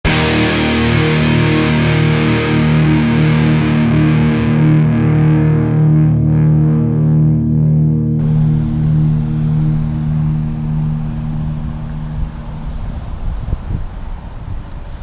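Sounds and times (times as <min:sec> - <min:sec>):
distorted electric guitar chord: 0:00.0 - 0:13.5.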